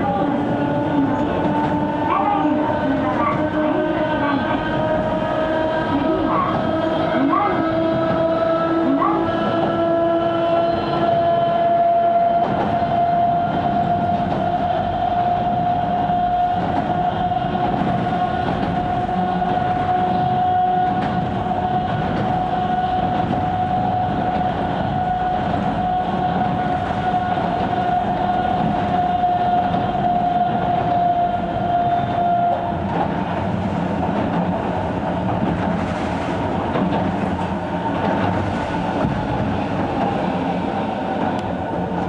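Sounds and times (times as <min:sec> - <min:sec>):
electric train whine: 0:00.0 - 0:42.0
train rumble and wheel clatter: 0:00.0 - 0:42.0.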